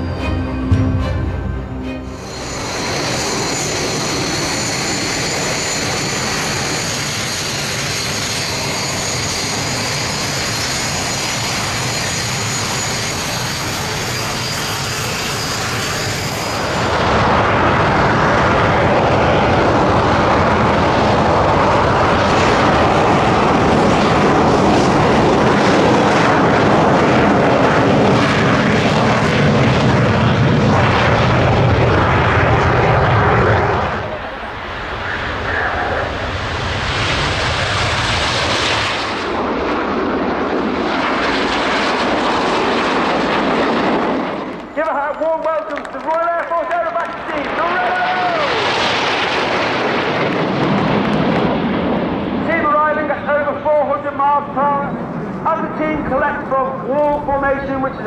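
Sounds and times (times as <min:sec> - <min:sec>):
aircraft engine roaring: 0:00.0 - 0:58.0
high engine whine: 0:00.0 - 0:58.0.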